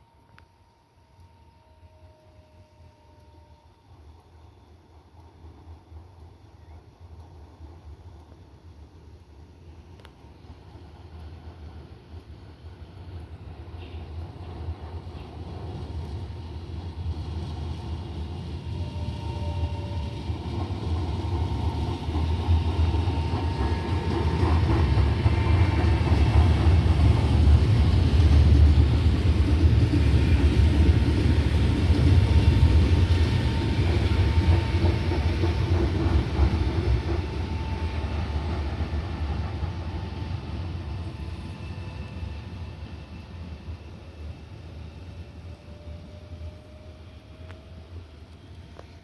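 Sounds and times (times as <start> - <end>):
train passing with low rumble: 0.0 - 49.0.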